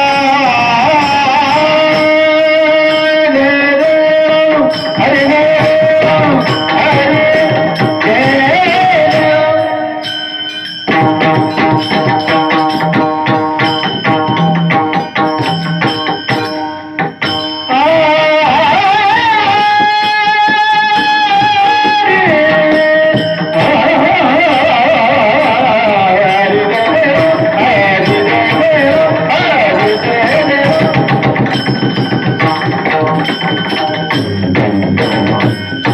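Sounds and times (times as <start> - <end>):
sustained melody: 0.0 - 35.9.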